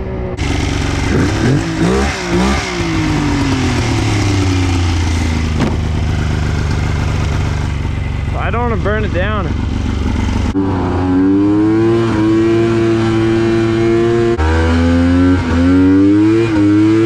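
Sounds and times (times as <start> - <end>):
snowmobile engine revving and idling: 0.0 - 17.0.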